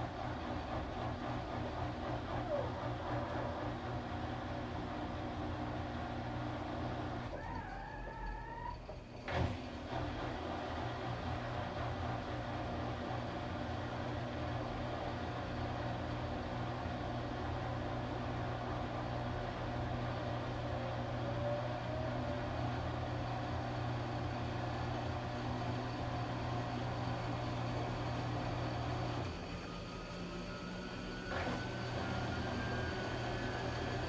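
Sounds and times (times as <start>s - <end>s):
washing machine running: 0.0s - 34.0s.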